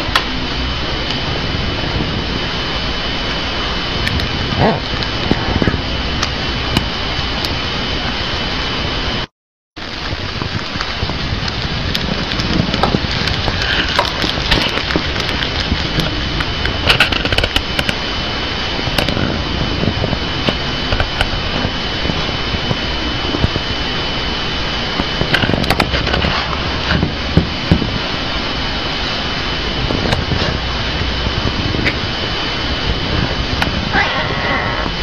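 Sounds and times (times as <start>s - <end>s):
steady hiss with high whine: 0.0s - 35.0s.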